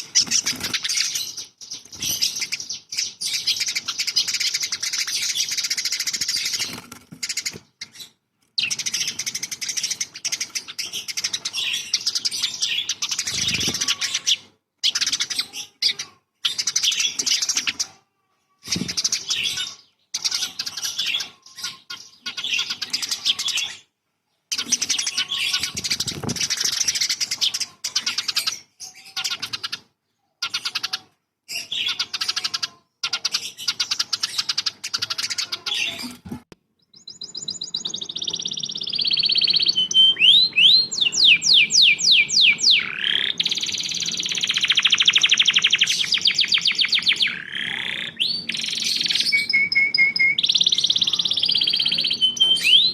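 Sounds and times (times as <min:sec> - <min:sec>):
songbird chattering and twittering: 0:00.0 - 0:36.2, 0:36.8 - 0:52.9.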